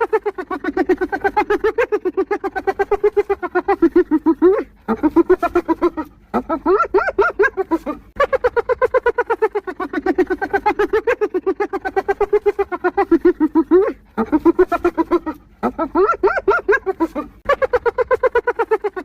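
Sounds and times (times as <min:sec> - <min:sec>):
hyena giggling: 0:00.0 - 0:19.0.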